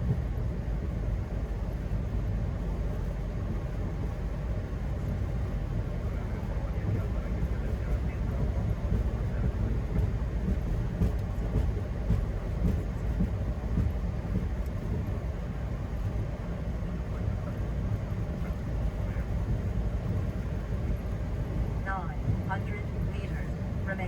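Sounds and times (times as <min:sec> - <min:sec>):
low rumble of wheels and engines: 0:00.0 - 0:24.0.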